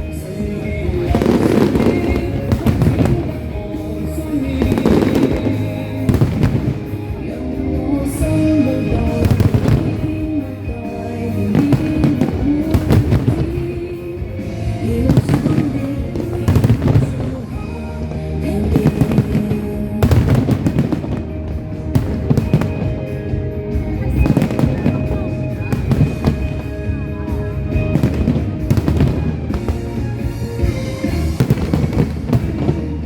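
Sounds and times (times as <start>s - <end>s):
fireworks bangs and crackling: 0.0s - 33.0s
music with melody: 0.0s - 33.0s.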